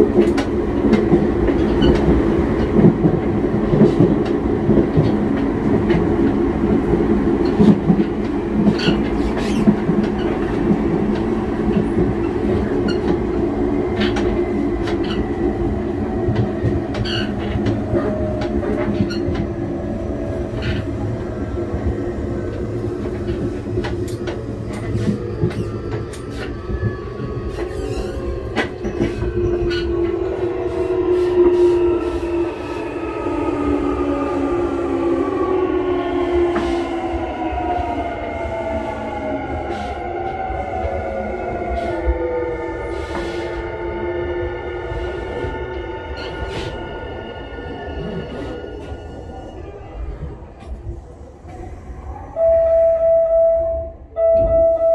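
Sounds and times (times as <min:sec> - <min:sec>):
train low rumble: 0:00.0 - 0:54.9.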